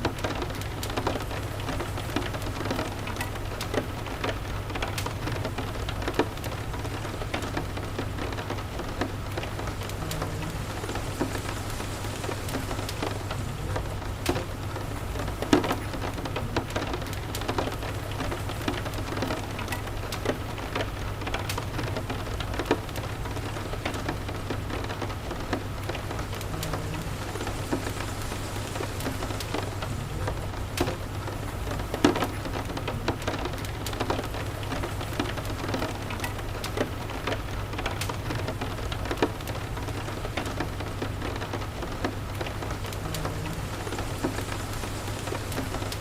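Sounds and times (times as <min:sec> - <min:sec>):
steady rain: 0:00.0 - 0:46.0
wood fire crackling: 0:00.0 - 0:46.0.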